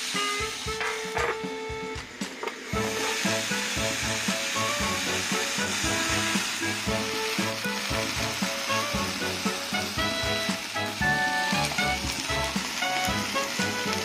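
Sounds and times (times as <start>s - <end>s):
meat sizzling on hot plate: 0.0s - 1.7s, 2.6s - 14.0s
background music with light beat: 0.0s - 14.0s.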